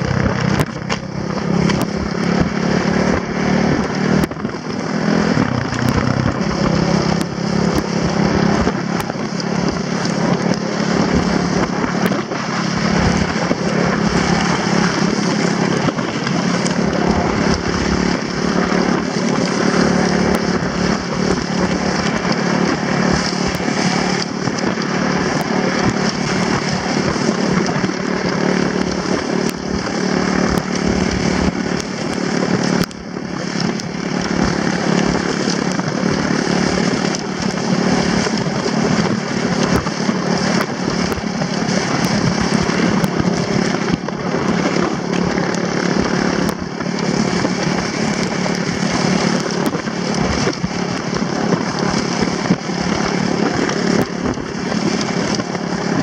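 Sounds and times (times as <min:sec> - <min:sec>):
quad bike engine running: 0:00.0 - 0:56.0
sled scraping on snow: 0:00.0 - 0:56.0.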